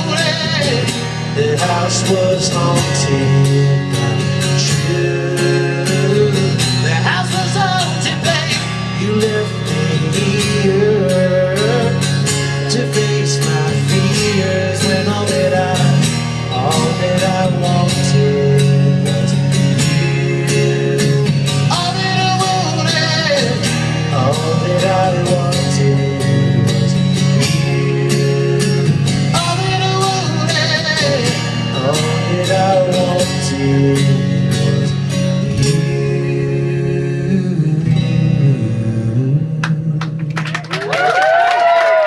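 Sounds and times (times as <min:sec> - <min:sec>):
acoustic guitar strumming: 0:00.0 - 0:40.8
man singing: 0:00.0 - 0:42.0.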